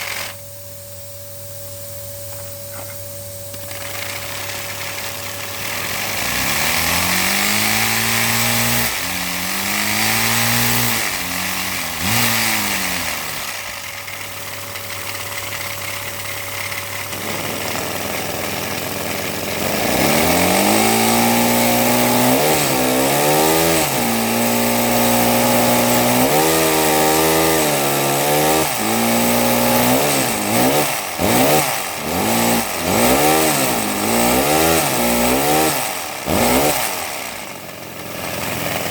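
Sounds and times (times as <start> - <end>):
small engine buzzing: 0.0 - 38.9.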